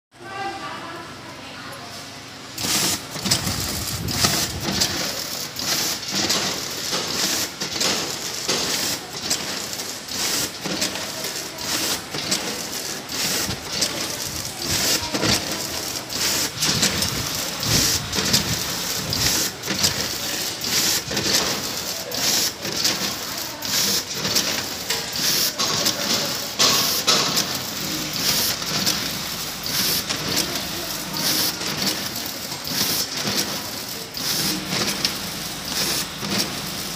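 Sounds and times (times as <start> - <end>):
machine clatter: 2.5 - 36.9
popcorn pattering and rattling: 2.6 - 36.9.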